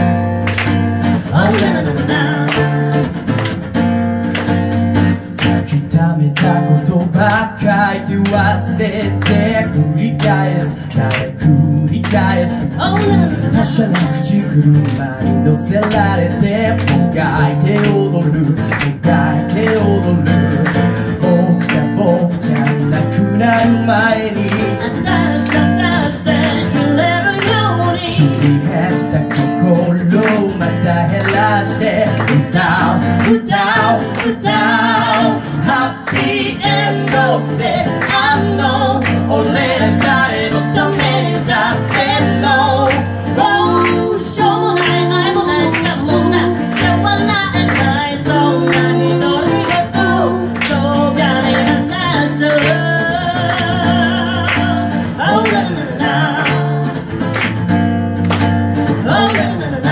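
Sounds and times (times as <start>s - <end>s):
acoustic guitar strumming: 0.0s - 59.9s
woman singing: 1.3s - 3.0s, 6.6s - 20.2s, 23.1s - 29.0s, 29.7s - 56.7s, 58.9s - 59.9s.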